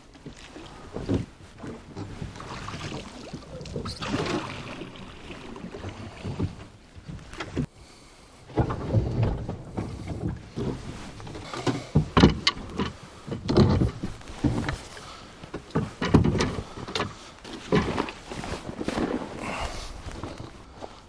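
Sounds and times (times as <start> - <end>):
knocks and thumps from rowboat: 0.0 - 7.8, 8.4 - 20.6.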